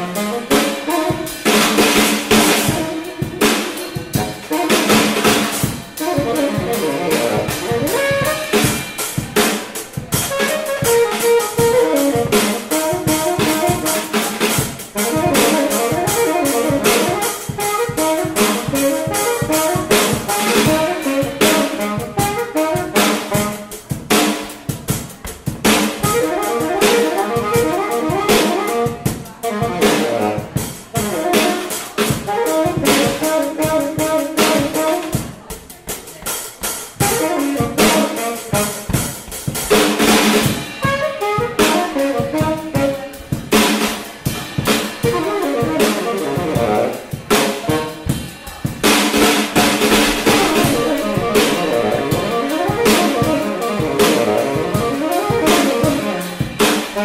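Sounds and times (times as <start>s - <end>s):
drum kit with rimshots: 0.0s - 57.0s
horn playing jazz melody: 0.0s - 57.0s.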